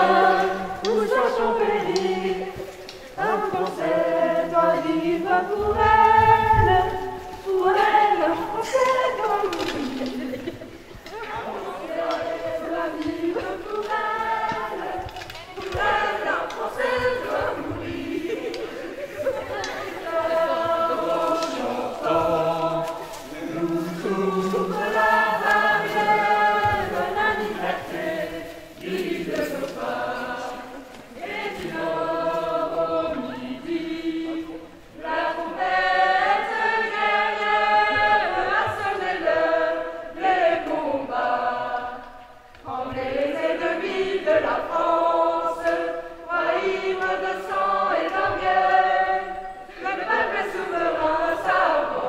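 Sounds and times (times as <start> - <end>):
voices singing together: 0.0 - 52.0.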